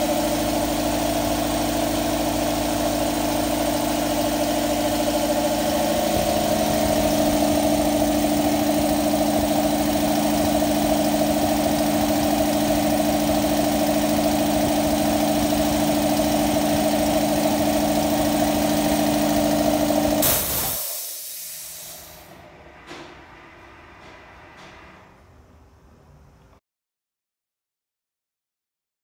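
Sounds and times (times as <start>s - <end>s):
air compressor humming: 0.0s - 25.8s.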